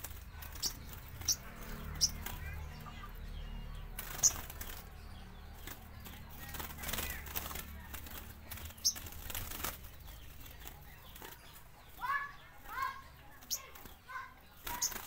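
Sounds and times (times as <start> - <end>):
birds flapping wings: 0.0 - 15.0
high bird chirps: 0.0 - 15.0.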